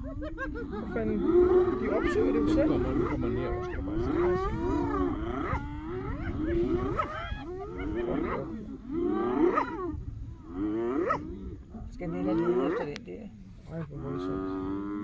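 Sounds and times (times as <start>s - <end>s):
hyenas groaning and whooping: 0.0s - 13.0s
wind rumbling on microphone: 0.0s - 15.0s.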